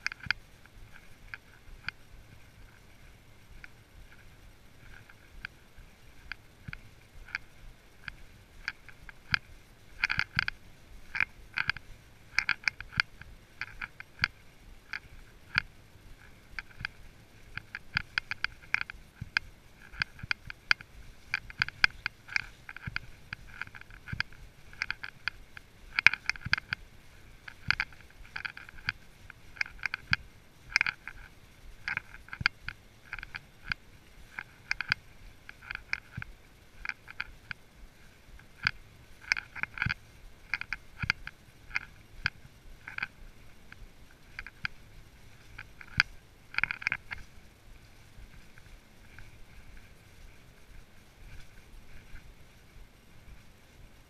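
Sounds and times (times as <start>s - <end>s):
horse tack clicking and rattling: 0.0s - 54.0s.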